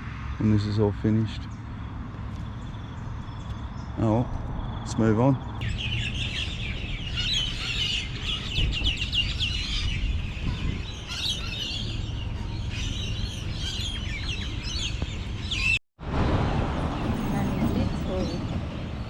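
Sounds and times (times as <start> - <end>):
small birds chirping: 0.2 - 15.8
low rumble: 2.6 - 19.0.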